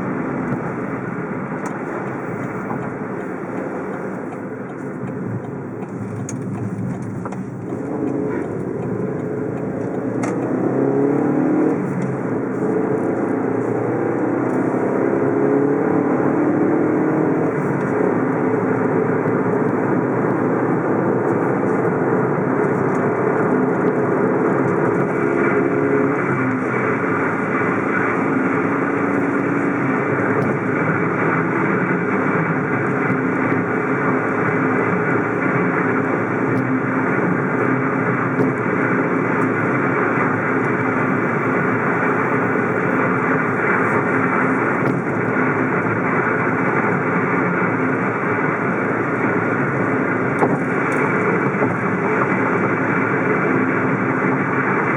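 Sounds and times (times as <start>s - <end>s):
car engine accelerating: 0.0s - 54.9s
road noise: 0.0s - 54.9s.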